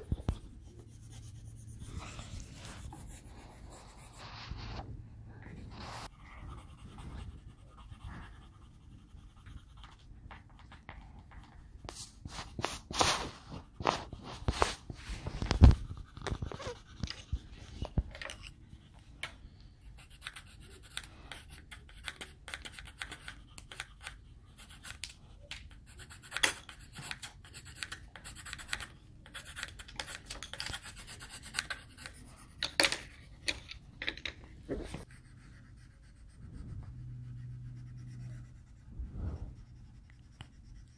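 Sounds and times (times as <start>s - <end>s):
pencils scratching on paper: 0.0s - 10.1s, 11.8s - 19.1s, 19.7s - 33.6s, 34.6s - 40.9s.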